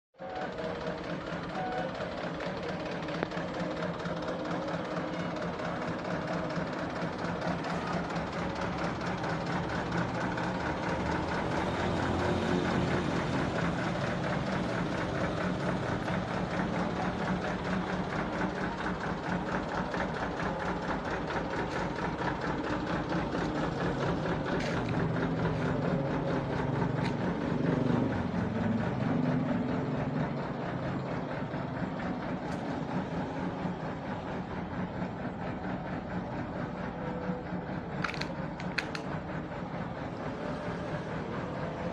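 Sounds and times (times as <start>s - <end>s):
diesel truck engine idling: 0.2s - 41.9s.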